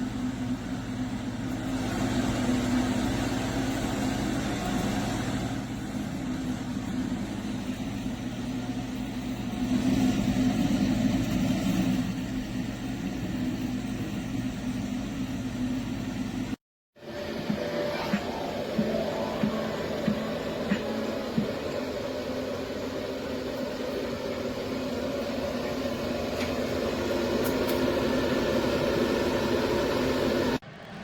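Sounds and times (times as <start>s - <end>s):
exhaust fan running: 0.0s - 31.0s.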